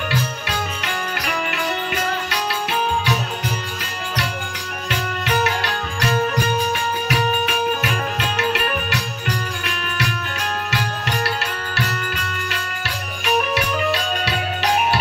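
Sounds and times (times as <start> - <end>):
hand drum beating: 0.0 - 15.0
harmonium holding notes: 0.0 - 15.0
small cymbals clashing: 0.0 - 15.0.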